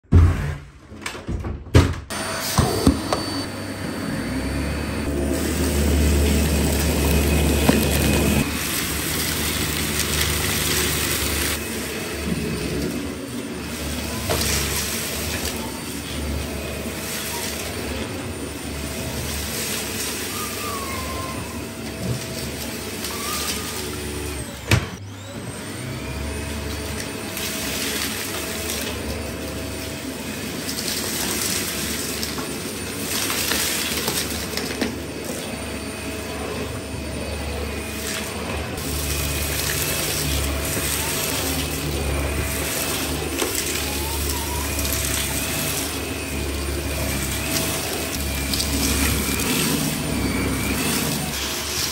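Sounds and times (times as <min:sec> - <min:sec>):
vacuum cleaner running on carpet: 0:02.1 - 0:51.9.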